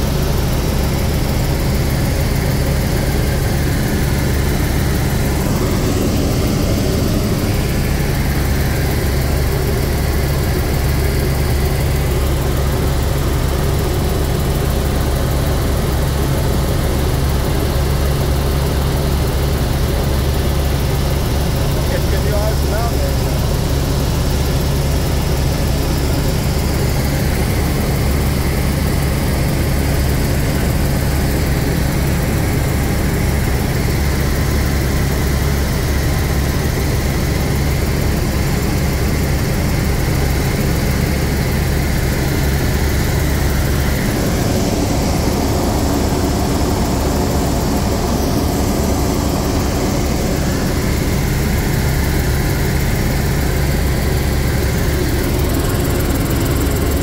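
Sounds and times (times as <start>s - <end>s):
helicopter drone in cockpit: 0.0s - 57.0s.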